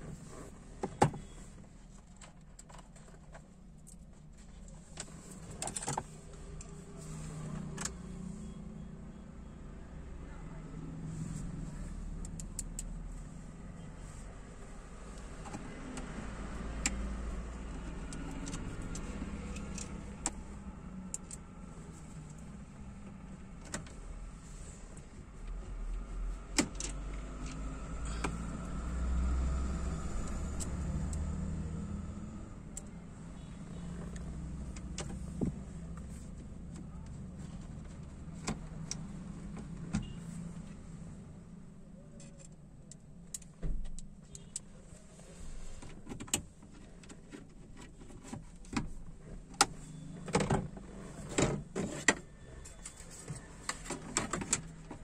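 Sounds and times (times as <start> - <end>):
car engine rumble: 0.0 - 55.0.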